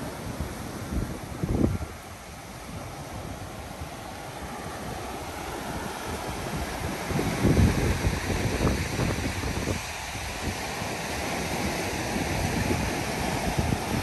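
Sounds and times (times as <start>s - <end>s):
ocean waves washing ashore: 0.0s - 14.0s
wind buffeting microphone: 0.0s - 14.0s.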